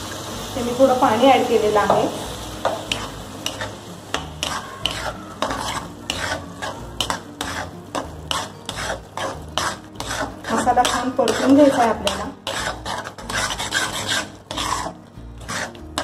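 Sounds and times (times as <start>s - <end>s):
paste frying: 0.0s - 16.0s
metal spoon scraping metal pan: 2.6s - 16.0s.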